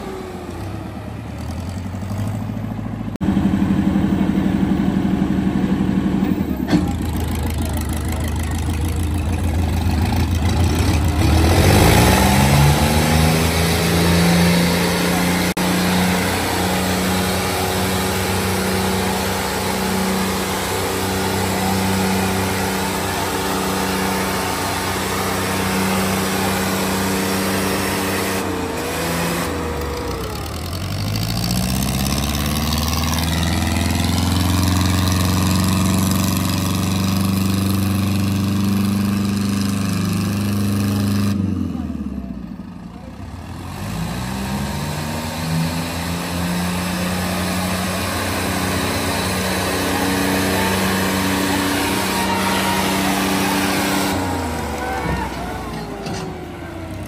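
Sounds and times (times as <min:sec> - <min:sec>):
tractor diesel engines revving: 0:00.0 - 0:57.0.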